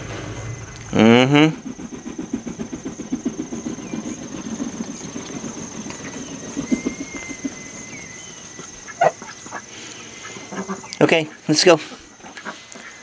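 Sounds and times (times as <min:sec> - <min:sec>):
coffee maker gurgling: 0:00.0 - 0:11.6
thin high whine: 0:00.0 - 0:11.7.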